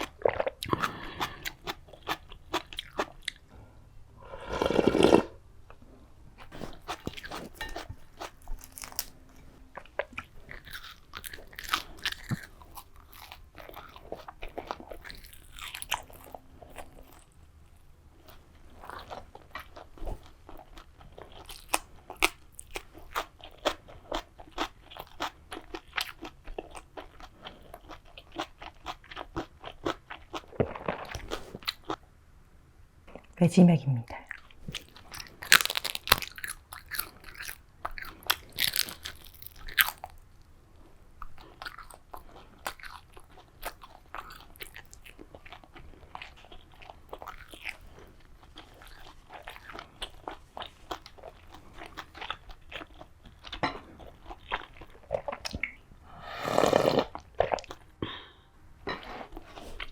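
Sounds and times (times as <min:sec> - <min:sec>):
crunching and chewing crisp food: 0:00.0 - 0:05.8, 0:06.4 - 0:32.0, 0:34.2 - 0:59.9.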